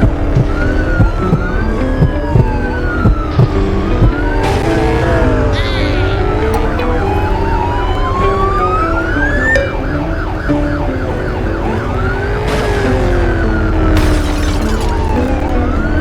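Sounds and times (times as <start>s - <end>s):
yelping siren: 0.0s - 14.0s
wailing sirens: 0.0s - 16.0s.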